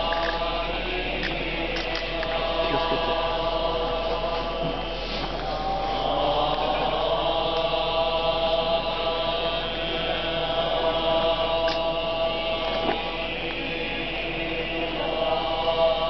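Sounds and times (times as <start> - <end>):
monks chanting: 0.0 - 16.0.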